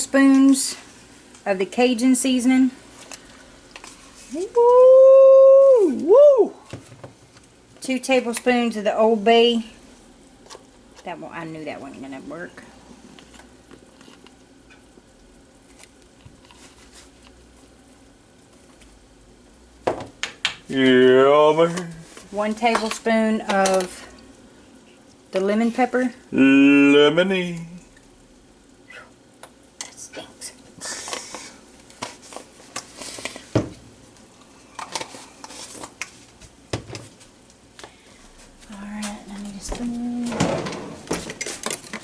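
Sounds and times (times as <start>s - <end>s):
pot of water heating hiss: 0.0s - 36.6s.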